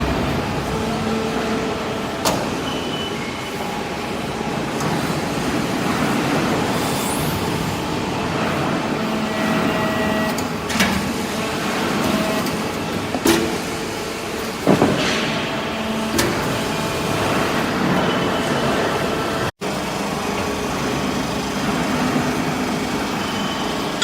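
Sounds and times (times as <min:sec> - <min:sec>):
hydraulic baler humming and hissing: 0:00.0 - 0:24.0.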